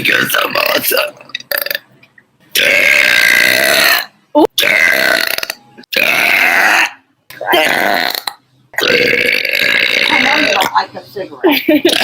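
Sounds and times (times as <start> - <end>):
woman burping loudly: 0.4 - 1.8, 2.5 - 10.8, 11.6 - 12.0.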